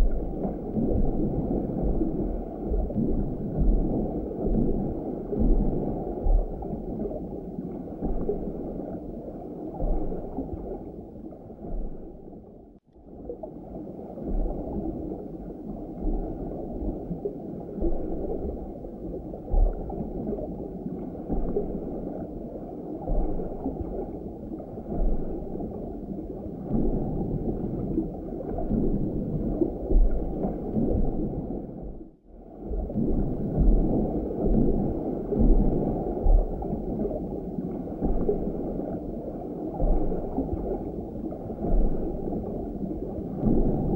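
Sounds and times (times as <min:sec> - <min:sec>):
muffled underwater water rush: 0:00.0 - 0:43.9.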